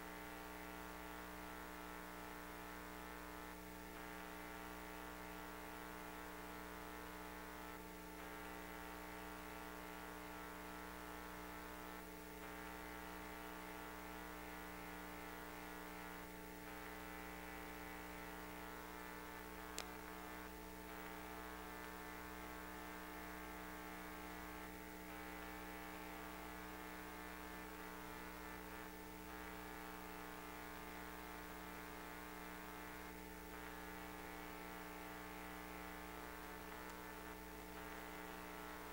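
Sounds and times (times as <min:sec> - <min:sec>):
layered electrical hum: 0:00.0 - 0:38.9.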